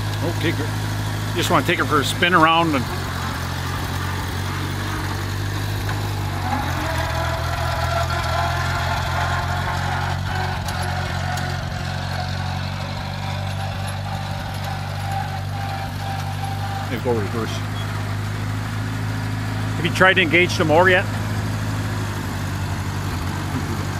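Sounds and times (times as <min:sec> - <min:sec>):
tractor engine running: 0:00.0 - 0:23.9.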